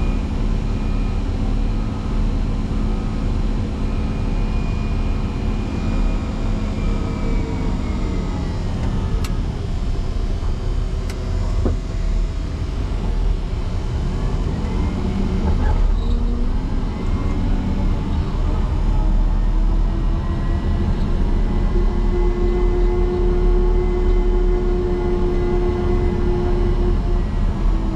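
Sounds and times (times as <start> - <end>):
diesel engine running under load: 0.0 - 27.9.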